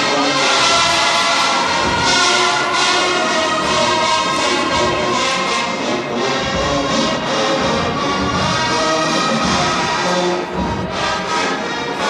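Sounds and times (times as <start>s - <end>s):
marching band playing: 0.0s - 12.0s
drum hits: 0.1s - 12.0s.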